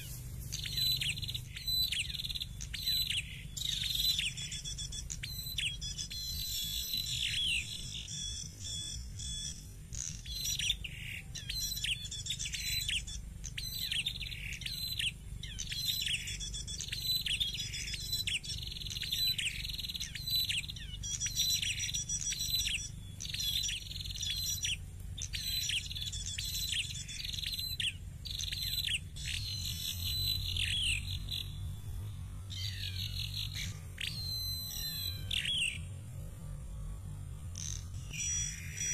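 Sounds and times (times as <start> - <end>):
warbler sharp descending chirps: 0.0 - 36.0, 37.5 - 38.9.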